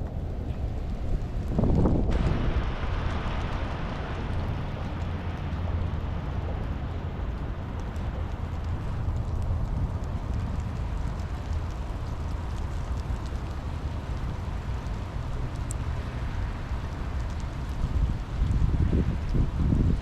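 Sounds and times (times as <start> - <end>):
raindrop ticks: 0.0 - 20.0
steady rain: 0.0 - 20.0
wind rumble on microphone: 0.0 - 20.0.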